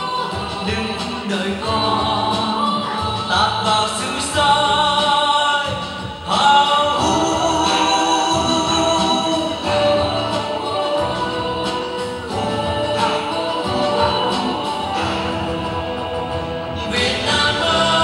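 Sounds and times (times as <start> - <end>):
pop song with vocals: 0.0 - 18.0.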